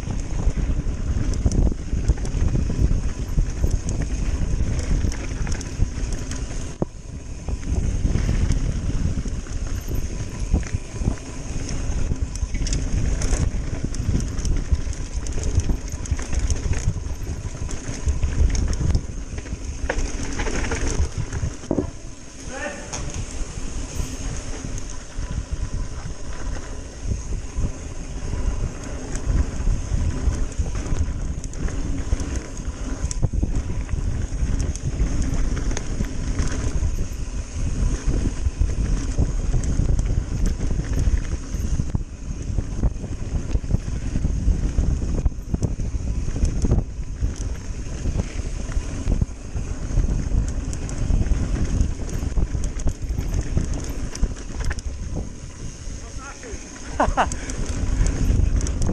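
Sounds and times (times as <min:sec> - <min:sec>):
bike rattling on rough trail: 0:00.0 - 0:58.9
wind buffeting microphone: 0:00.0 - 0:58.9.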